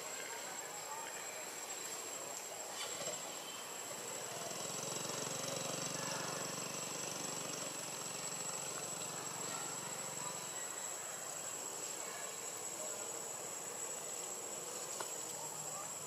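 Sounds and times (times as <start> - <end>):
insects whining: 0.0 - 16.0
distant small engine running: 3.0 - 16.0.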